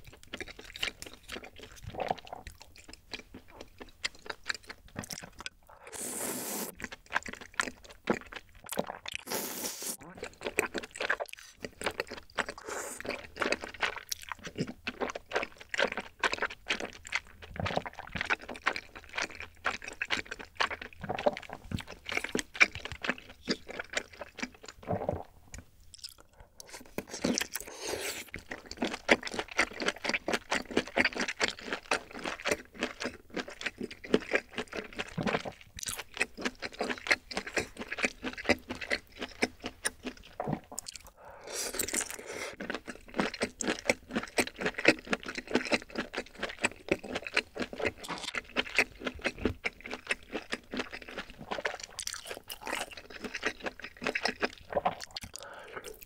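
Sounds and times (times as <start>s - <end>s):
chewing and lip smacking: 0.0s - 5.8s, 6.7s - 9.3s, 10.0s - 56.0s.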